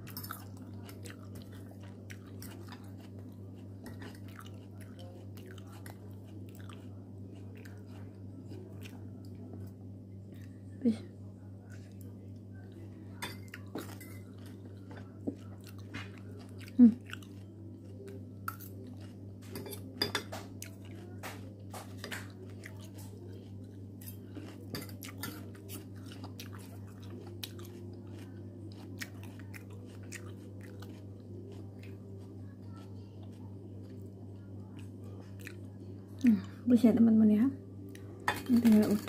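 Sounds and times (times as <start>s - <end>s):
chewing crisp lettuce: 0.0s - 10.6s, 13.5s - 36.4s
steady low hum: 0.0s - 39.0s.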